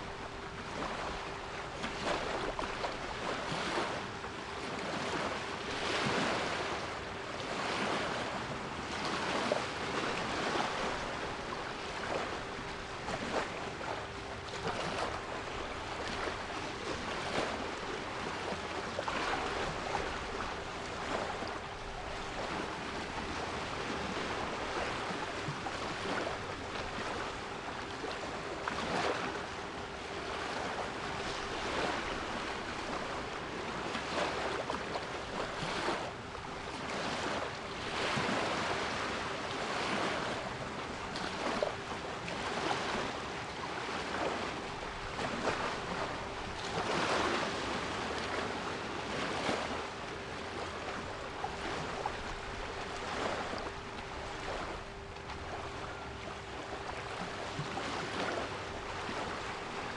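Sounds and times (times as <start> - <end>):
sea waves breaking: 0.0 - 59.9.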